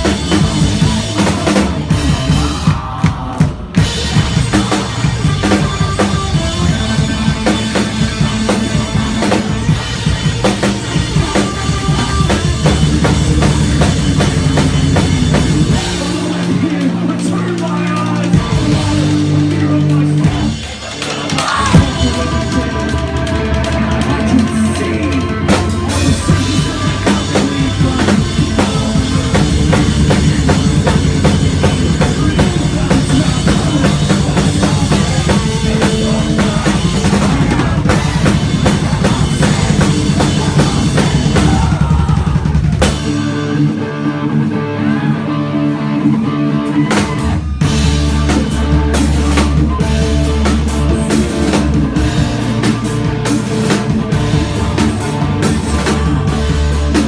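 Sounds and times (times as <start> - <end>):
loud drum kit playing: 0.0 - 57.0
post-hardcore band playing live: 0.0 - 57.0.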